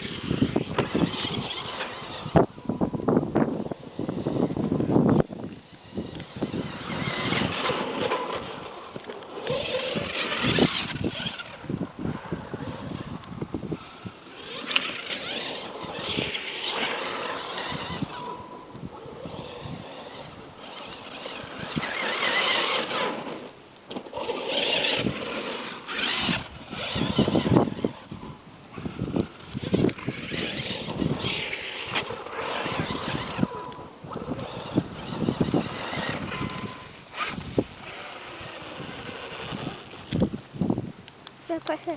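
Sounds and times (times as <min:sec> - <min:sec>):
rc car motor and tyres: 0:00.0 - 0:41.9.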